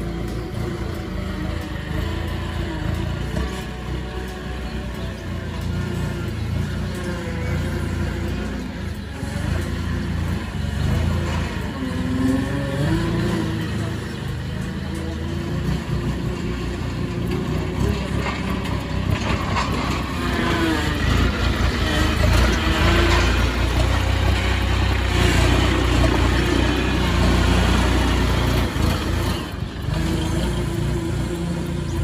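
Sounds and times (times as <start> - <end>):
forklift engine running: 0.0 - 32.0.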